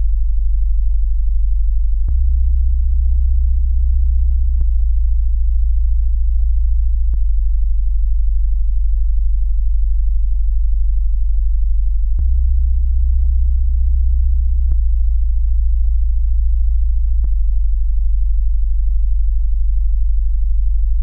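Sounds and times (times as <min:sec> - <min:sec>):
deep sine bass drone: 0:00.0 - 0:21.0.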